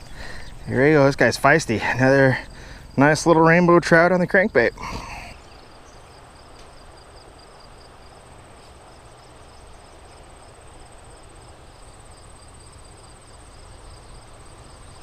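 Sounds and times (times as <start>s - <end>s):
insect high-pitched trill: 0.0s - 15.0s
pulsing insect chirp: 0.0s - 15.0s.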